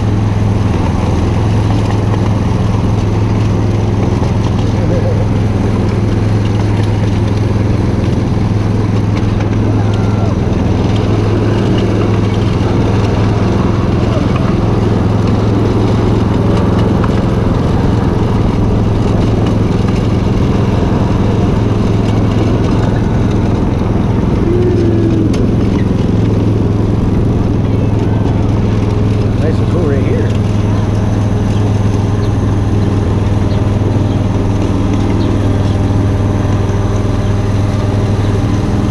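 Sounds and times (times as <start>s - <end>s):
miniature train engine drone: 0.0s - 38.9s.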